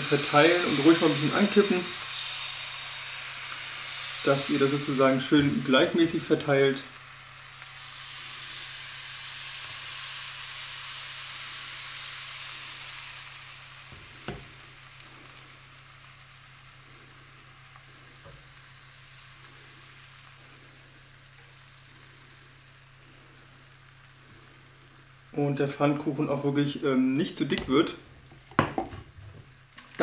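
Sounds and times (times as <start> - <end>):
batter sizzling in frying pan: 0.0 - 30.0.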